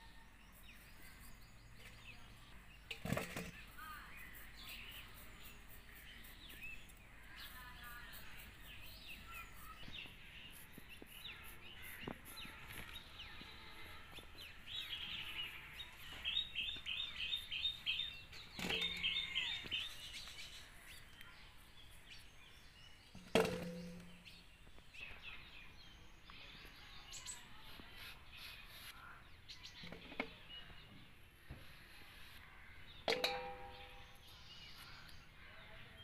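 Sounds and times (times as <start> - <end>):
birds chirping: 0.0 - 36.0
low outdoor background: 0.0 - 36.0.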